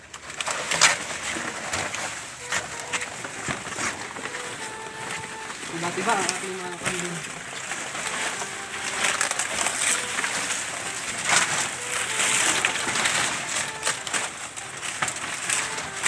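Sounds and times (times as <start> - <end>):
banana leaves rustling and crackling: 0.0 - 16.0.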